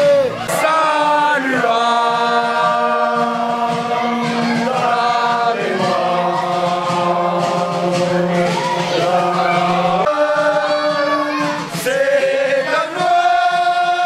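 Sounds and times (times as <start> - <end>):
group singing in unison: 0.0 - 14.0.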